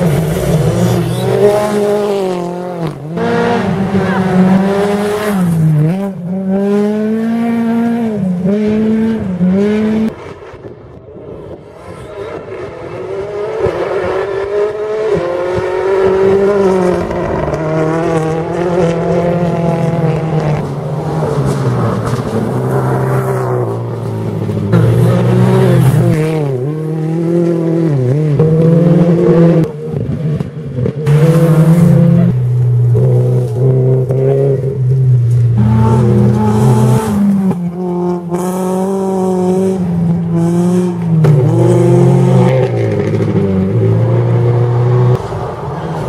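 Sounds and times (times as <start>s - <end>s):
rally car engines at full throttle: 0.0s - 46.0s.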